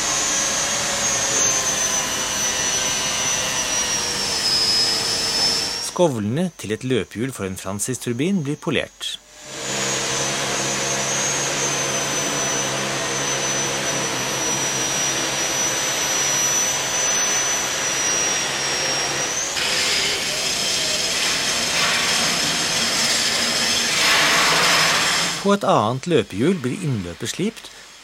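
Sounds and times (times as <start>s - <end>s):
angle grinder whining: 0.0s - 6.1s, 8.2s - 25.6s.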